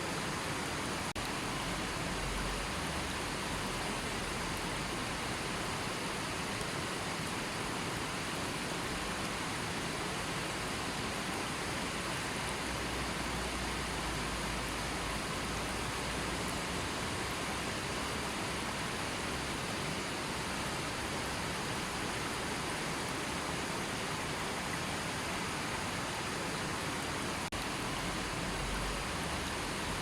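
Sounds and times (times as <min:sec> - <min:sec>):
river water flowing over rocks: 0:00.0 - 0:30.0.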